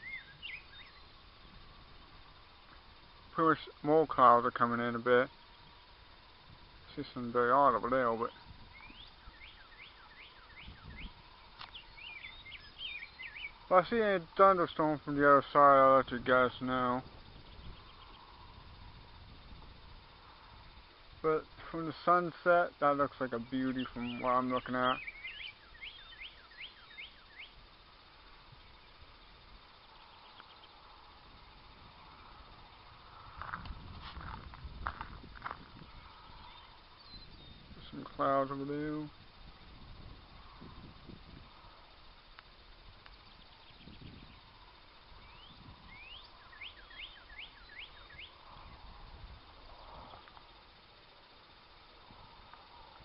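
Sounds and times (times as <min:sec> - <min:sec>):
faint outdoor hiss: 0:00.0 - 0:53.0
songbird singing: 0:00.0 - 0:53.0.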